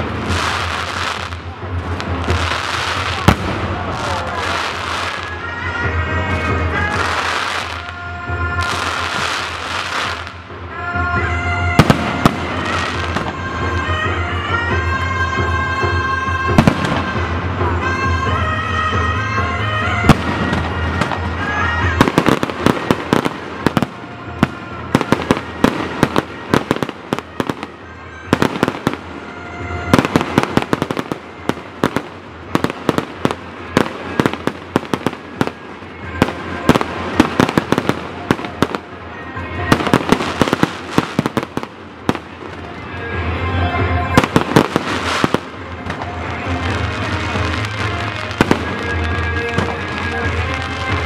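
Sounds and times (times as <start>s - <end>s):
fireworks bangs and crackles: 0.0s - 51.0s
music playing: 0.0s - 51.0s.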